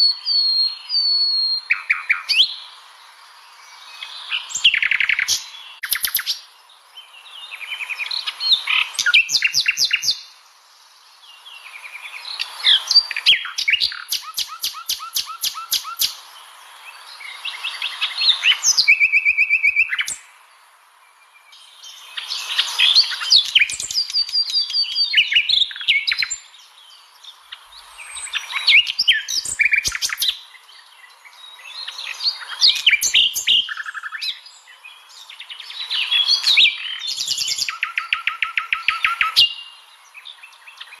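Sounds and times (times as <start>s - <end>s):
nightingale singing: 0.0s - 41.0s.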